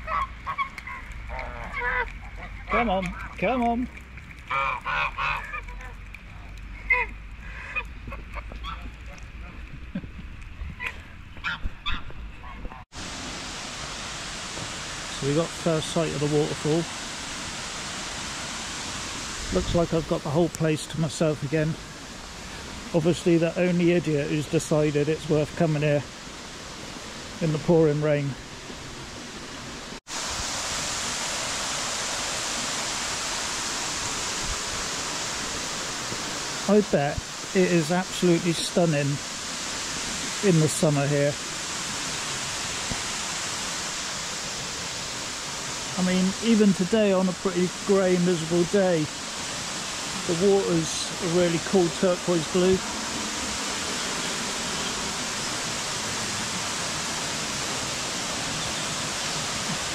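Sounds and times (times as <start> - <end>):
waterfall rushing: 0.0 - 9.5, 12.9 - 59.9
heavy rain: 0.0 - 11.3, 12.8 - 59.9.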